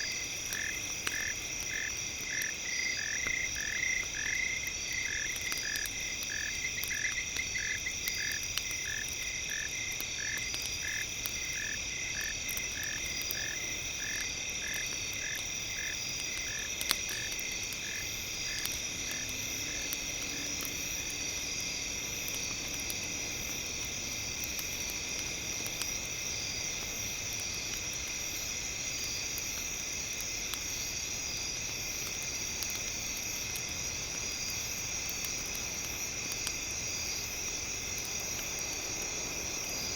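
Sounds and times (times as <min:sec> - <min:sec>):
campfire crackling: 0:00.0 - 0:39.9
insect chorus: 0:00.0 - 0:39.9.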